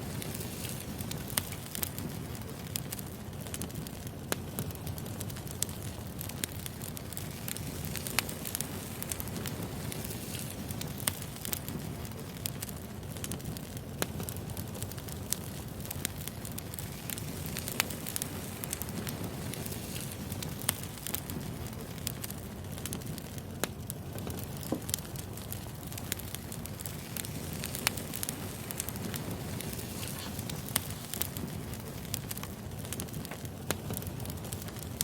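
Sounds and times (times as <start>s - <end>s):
fire flames rushing: 0.0s - 35.0s
wood crackling and popping: 0.0s - 35.0s.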